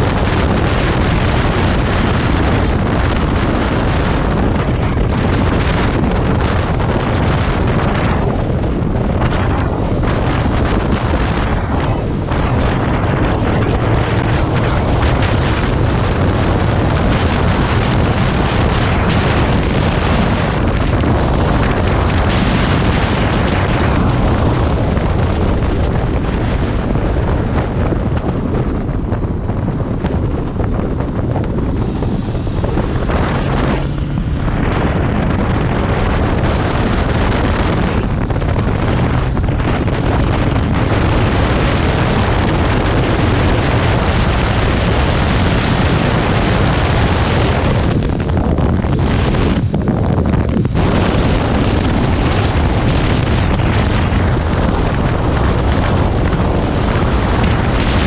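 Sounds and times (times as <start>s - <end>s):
motorcycle engine humming: 0.0s - 58.0s
wind buffeting microphone: 0.0s - 58.0s.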